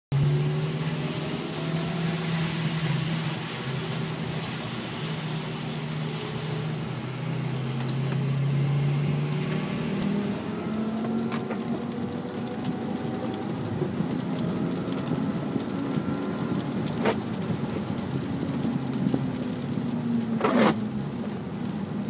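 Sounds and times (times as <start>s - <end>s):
car engine from inside cabin: 0.1s - 22.0s.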